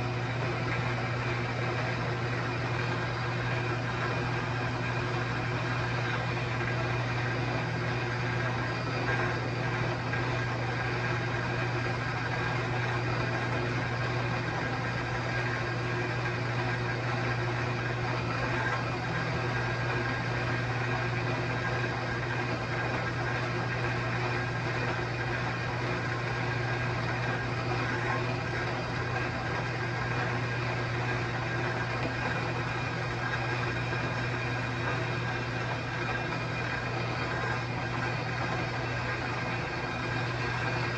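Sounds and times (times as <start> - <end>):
saw cutting with low hum: 0.0 - 40.9.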